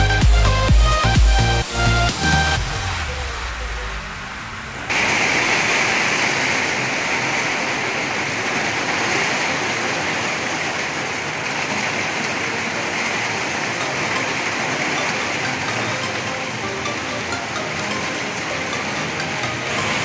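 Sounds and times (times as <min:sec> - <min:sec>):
heavy rain on a wet road: 0:00.2 - 0:20.0.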